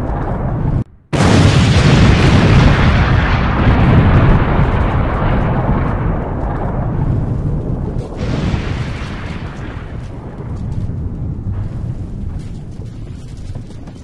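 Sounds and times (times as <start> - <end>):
rumble of shell explosions: 0.0 - 14.0.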